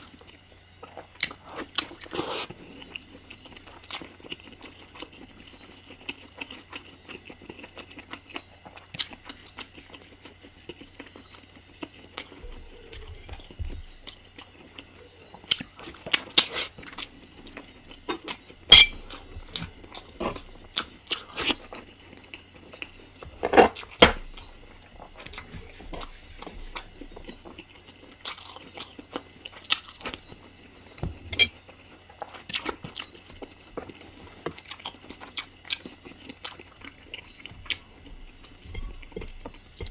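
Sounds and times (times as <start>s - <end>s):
chewing with wet smacking: 0.0s - 39.9s.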